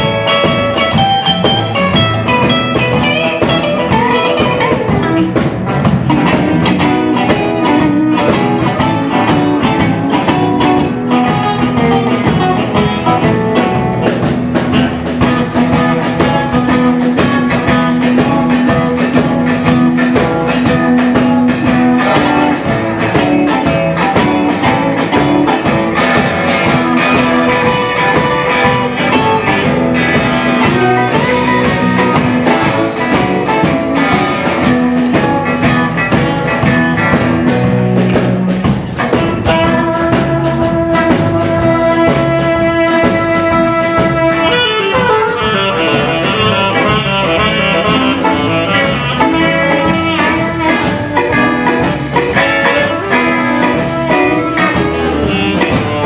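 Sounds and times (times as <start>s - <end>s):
saxophone: 0.0s - 14.1s, 14.7s - 35.0s, 39.0s - 56.0s
bass: 0.0s - 56.0s
drums: 0.0s - 56.0s
electric guitars: 0.0s - 56.0s.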